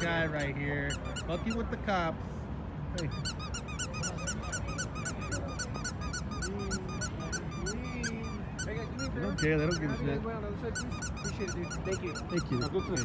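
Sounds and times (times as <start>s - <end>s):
squeaky toy squeaking: 0.0s - 1.8s, 3.0s - 13.0s.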